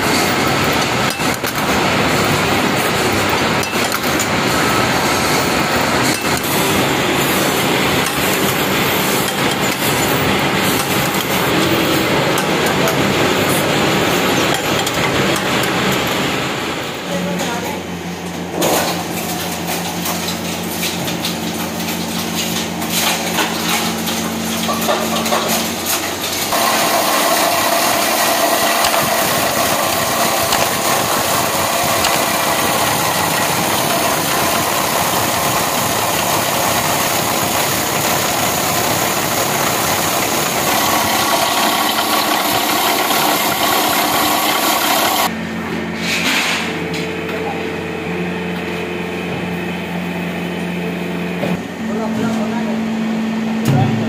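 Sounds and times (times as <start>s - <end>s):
granulator grinding plastic: 0.0s - 16.6s, 18.4s - 45.3s
steady machine hum: 0.0s - 46.0s, 46.7s - 54.0s.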